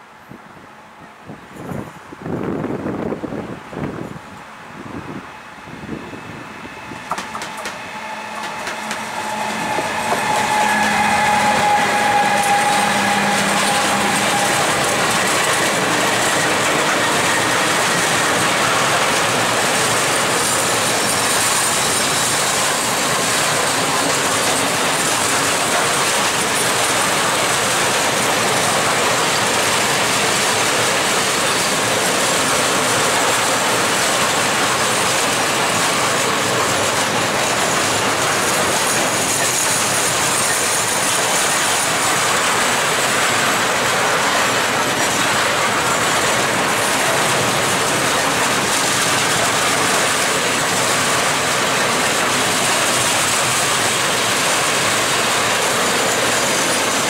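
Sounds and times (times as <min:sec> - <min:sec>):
electric locomotive whine: 0:00.0 - 0:57.0
train wheels rolling on rails: 0:00.0 - 0:57.0.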